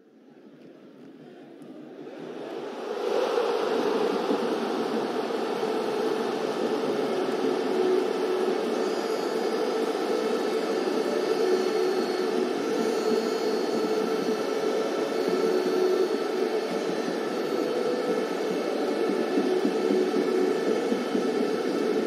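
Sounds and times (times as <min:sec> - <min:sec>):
faint hum: 0:00.0 - 0:22.0
static-like noise: 0:00.0 - 0:22.0.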